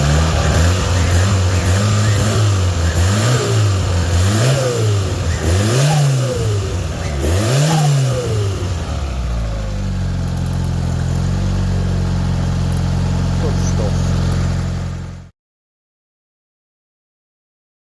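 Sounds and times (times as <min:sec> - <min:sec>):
car engine revving and idling: 0:00.0 - 0:15.3.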